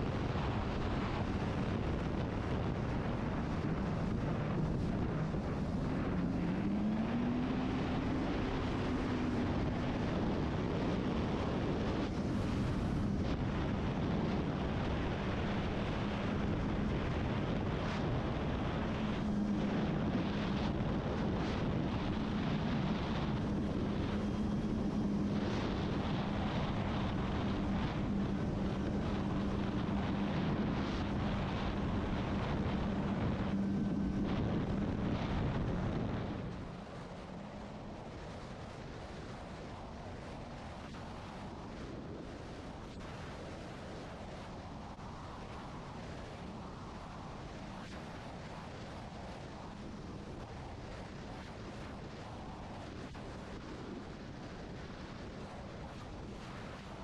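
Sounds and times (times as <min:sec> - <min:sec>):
jet ski engine running: 0:00.0 - 0:54.4
water and wind rushing: 0:00.0 - 0:57.0.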